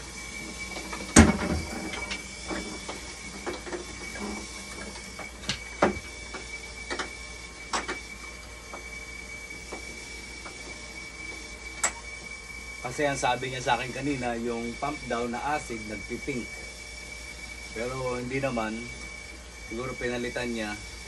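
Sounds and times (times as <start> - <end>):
machine high steady tone: 0.0 - 21.0.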